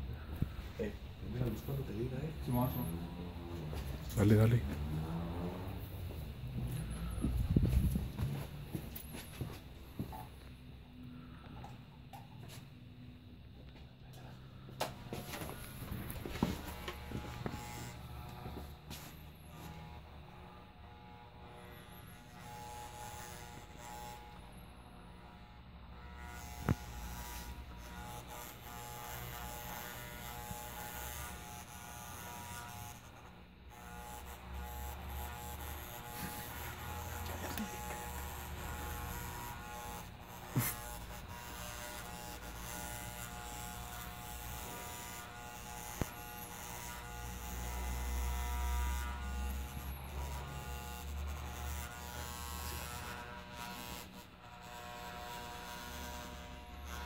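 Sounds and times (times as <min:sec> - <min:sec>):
electric hair clippers buzzing: 0:00.3 - 0:10.6, 0:14.4 - 0:57.0.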